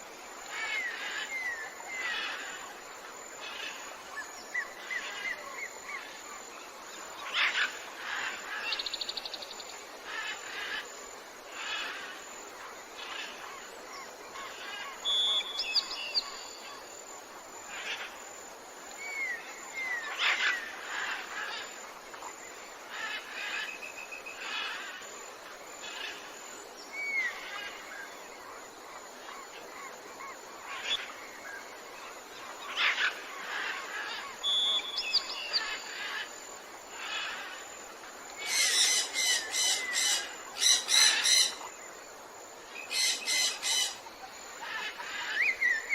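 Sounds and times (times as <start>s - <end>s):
background hiss: 0.0s - 45.9s.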